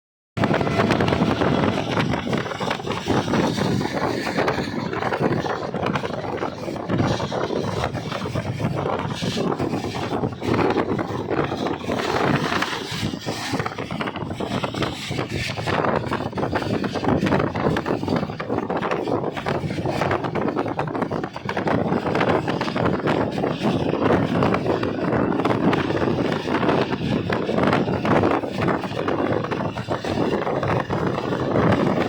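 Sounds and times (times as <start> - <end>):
train rumbling and rattling: 0.4 - 32.0
wind buffeting microphone: 0.4 - 32.0.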